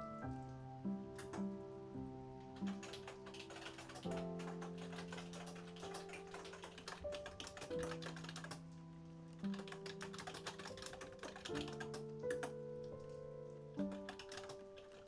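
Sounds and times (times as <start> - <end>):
soft music of held chords: 0.0 - 15.0
light clicks like typing: 1.2 - 1.6, 2.4 - 15.0.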